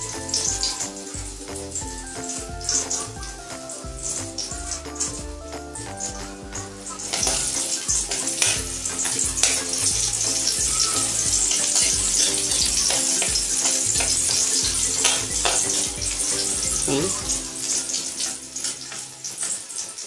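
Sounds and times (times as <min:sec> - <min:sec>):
background music with steady beat: 0:00.0 - 0:20.0
garlic and onion sizzling in oil: 0:00.0 - 0:20.0.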